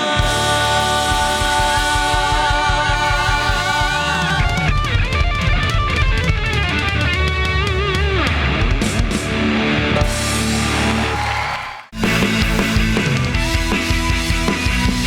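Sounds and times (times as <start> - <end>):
electric lead guitar: 0.0 - 11.3, 12.0 - 15.0
drums and bass: 0.0 - 15.0.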